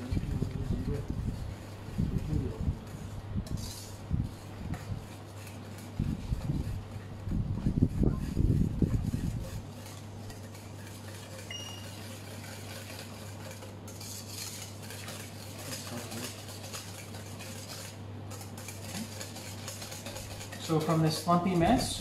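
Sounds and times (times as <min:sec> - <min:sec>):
whisk scraping metal bowl: 0:00.0 - 0:22.0.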